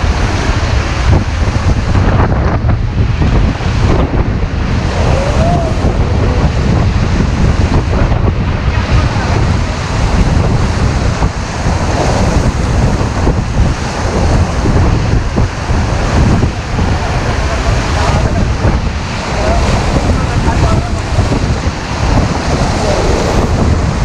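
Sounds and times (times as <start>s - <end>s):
river water rushing and splashing: 0.0s - 24.0s
wind buffeting microphone: 0.0s - 24.0s.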